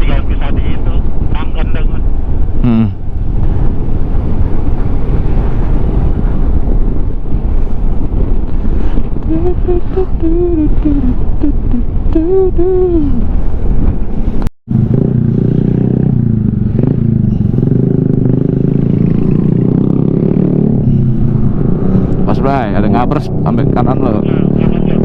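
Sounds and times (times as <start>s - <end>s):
scooter engine and road drone: 0.0s - 25.0s
wind rushing over microphone: 0.0s - 25.0s.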